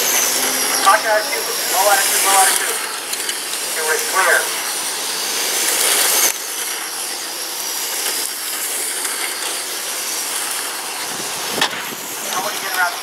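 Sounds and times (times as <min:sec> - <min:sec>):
radio-control trucks whining: 0:00.0 - 0:13.0.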